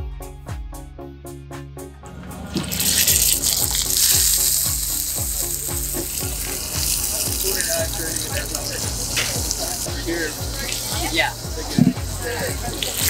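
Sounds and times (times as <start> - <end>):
background music with steady beat: 0.0 - 13.0
steak sizzling in a skillet: 2.5 - 13.0.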